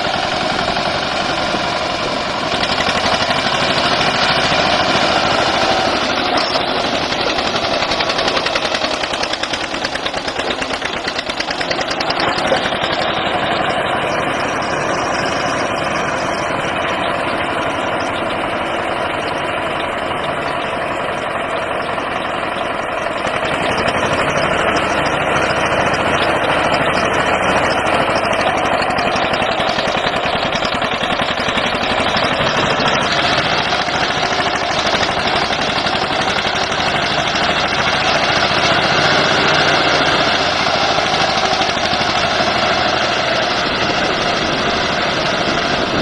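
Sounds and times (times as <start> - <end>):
backhoe loader engine running: 0.0 - 46.0
tractor diesel engine running: 0.0 - 46.0.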